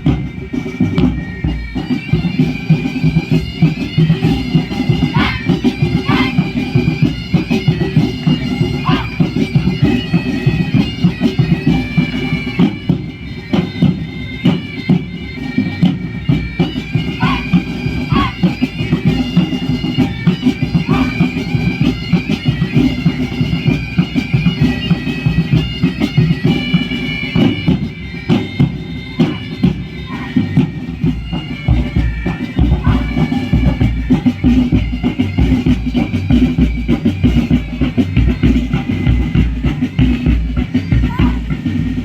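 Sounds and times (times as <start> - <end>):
bagpipes playing melody: 0.0 - 42.0
drum beat: 0.0 - 42.0.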